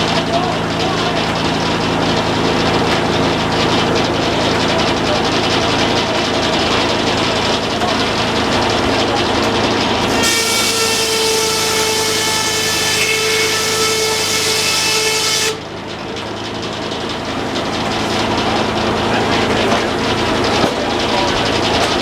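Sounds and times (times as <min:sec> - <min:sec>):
saw blade cutting wood: 0:00.0 - 0:22.0
sawmill engine running: 0:00.0 - 0:22.0.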